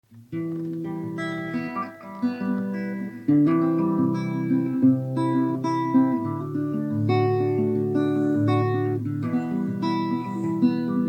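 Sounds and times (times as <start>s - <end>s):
acoustic guitar chords: 0.1s - 11.0s.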